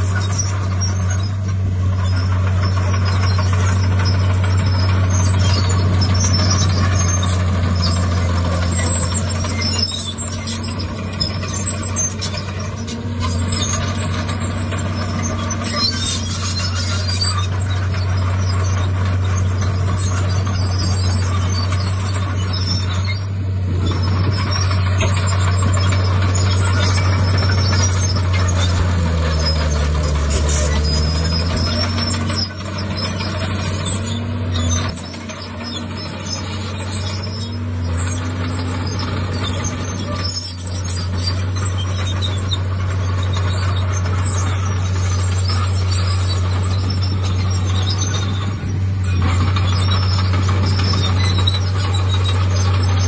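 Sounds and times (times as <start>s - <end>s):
diesel machinery engine drone: 0.0s - 53.0s.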